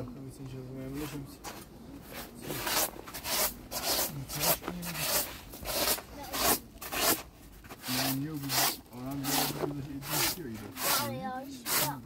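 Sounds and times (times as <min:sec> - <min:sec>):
rasping strokes: 0:02.0 - 0:12.0.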